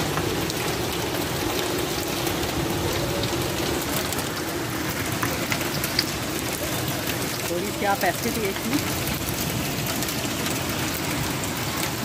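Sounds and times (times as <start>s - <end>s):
heavy rain on tin roofing: 0.0s - 12.0s.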